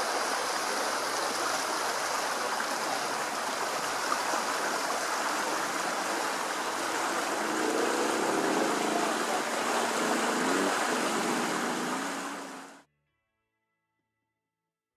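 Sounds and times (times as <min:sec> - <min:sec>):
river water rushing: 0:00.0 - 0:12.8.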